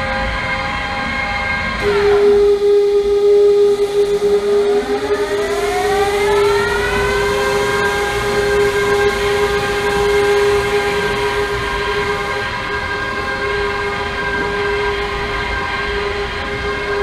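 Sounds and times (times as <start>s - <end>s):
car wash machinery whine: 0.0s - 17.0s
motor whine rising in pitch: 0.0s - 17.0s.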